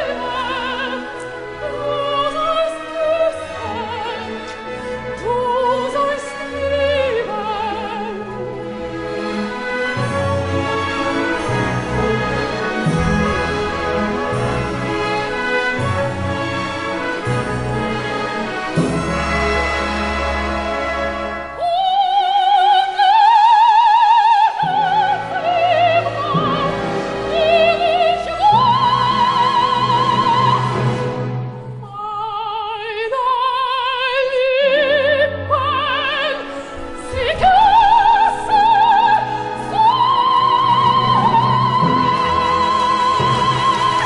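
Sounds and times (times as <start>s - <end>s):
operatic soprano singing: 0.0s - 19.1s, 21.4s - 44.0s
orchestra playing: 0.0s - 44.0s.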